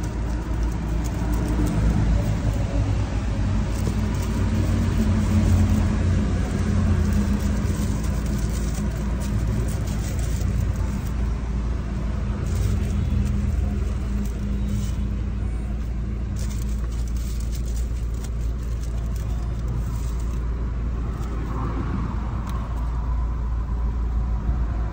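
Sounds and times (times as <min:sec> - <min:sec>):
light crackling and rustling: 0:00.0 - 0:23.2
car engine idling: 0:00.0 - 0:24.9.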